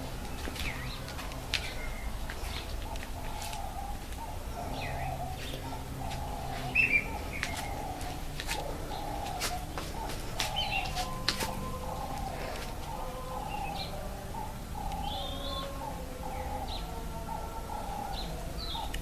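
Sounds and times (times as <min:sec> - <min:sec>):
birds chirping: 0:00.0 - 0:19.0
turtle dove low calls: 0:00.0 - 0:19.0.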